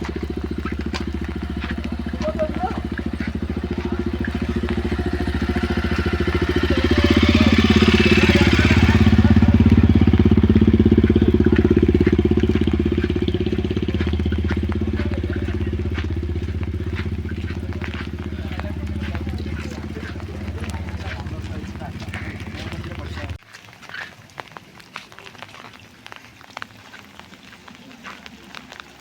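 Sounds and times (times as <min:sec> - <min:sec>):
vehicle engine throbbing: 0:00.0 - 0:23.4.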